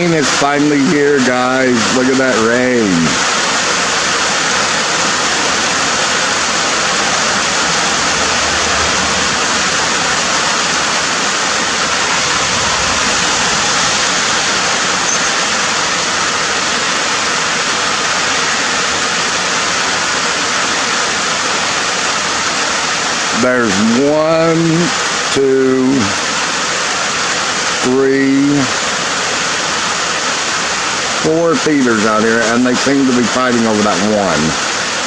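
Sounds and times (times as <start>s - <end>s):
heavy rain hissing: 0.0s - 35.0s.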